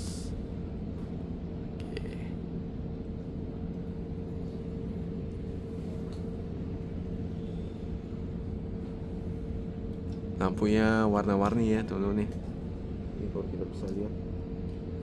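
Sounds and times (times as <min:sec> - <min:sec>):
ship engine rumble and hum: 0:00.0 - 0:15.0.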